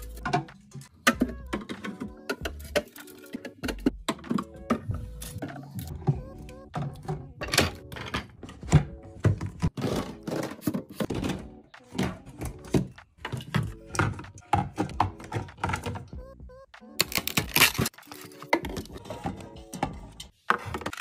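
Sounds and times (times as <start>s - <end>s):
items knocking and clicking: 0.0s - 16.2s, 17.0s - 21.0s.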